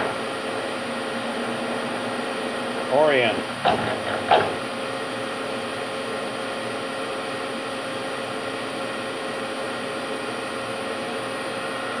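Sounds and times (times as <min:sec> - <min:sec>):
machining center whirring hum: 0:00.0 - 0:12.0.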